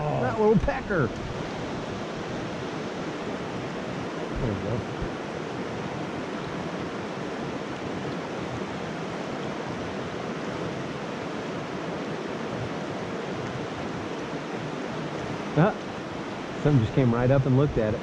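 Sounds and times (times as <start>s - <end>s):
stream running over rocks: 0.0s - 18.0s.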